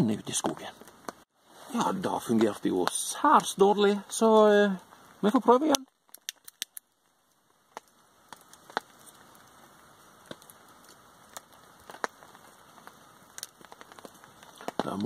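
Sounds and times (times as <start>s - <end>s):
faint steady hiss: 0.0s - 15.0s
kindling crackling and popping: 0.0s - 15.0s.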